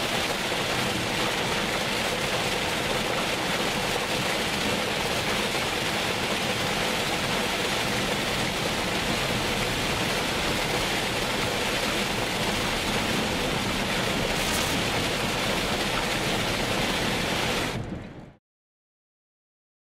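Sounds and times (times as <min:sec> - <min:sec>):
heavy rain on a car: 0:00.0 - 0:18.4.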